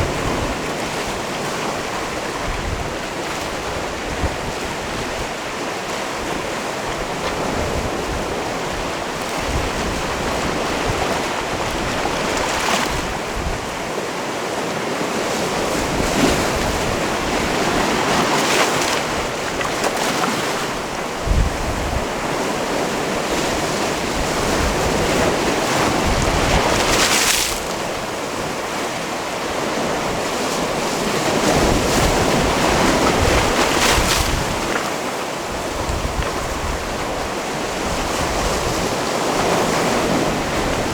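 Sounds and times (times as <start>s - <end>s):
waves washing on rocky shore: 0.0s - 40.9s.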